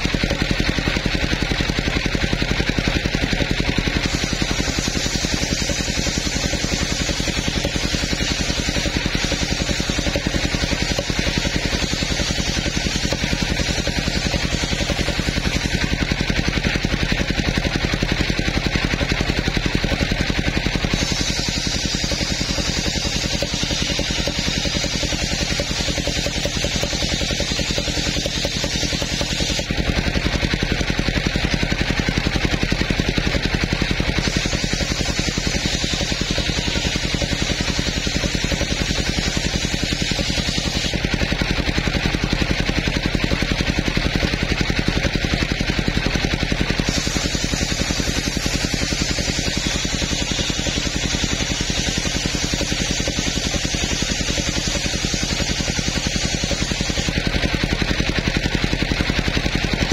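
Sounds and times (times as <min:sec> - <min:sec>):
circular saw cutting wood: 0:00.0 - 0:59.9
machine drone: 0:00.0 - 0:59.9.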